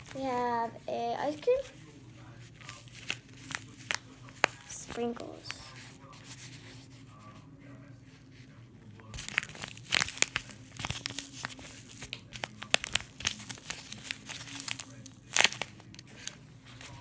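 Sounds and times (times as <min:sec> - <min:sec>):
paper crinkling: 0:00.0 - 0:17.0.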